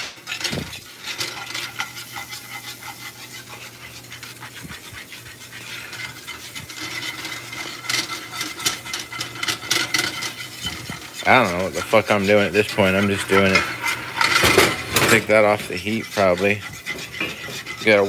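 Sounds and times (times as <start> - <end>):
gravy sizzling: 0.0 - 18.0
metal spatula scraping a skillet: 0.0 - 18.0.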